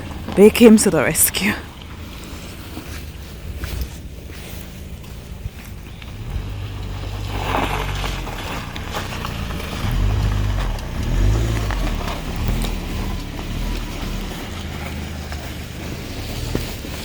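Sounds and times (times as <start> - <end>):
car engine revving: 1.8 - 17.0.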